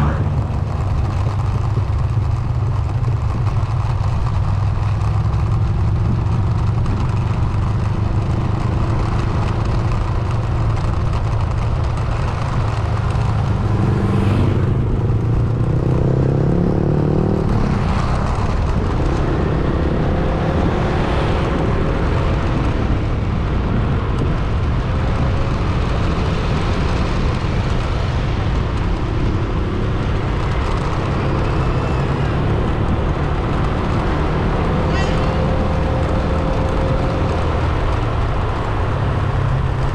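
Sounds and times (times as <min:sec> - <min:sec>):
tyre noise on road: 0:00.0 - 0:39.9
vehicle engine: 0:00.0 - 0:39.9.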